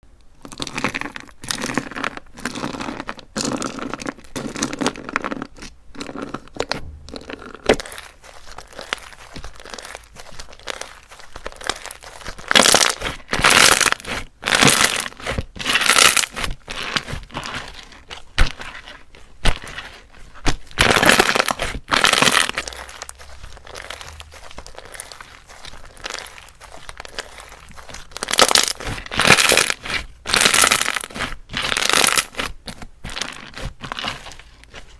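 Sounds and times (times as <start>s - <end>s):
crunchy slime squeezed by hand: 0.5s - 34.9s.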